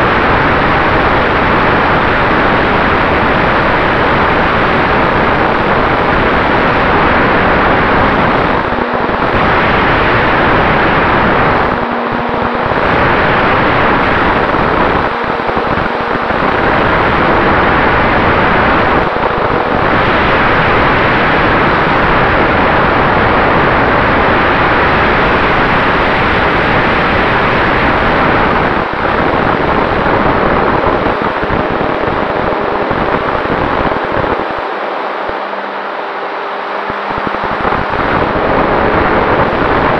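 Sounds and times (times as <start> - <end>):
model plane propeller and wind rush: 0.0 - 39.9.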